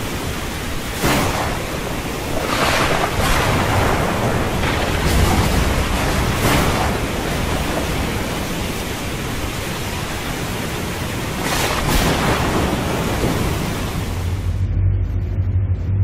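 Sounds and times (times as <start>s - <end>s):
rushing seawater: 0.0s - 14.6s
storm wind: 0.0s - 15.2s.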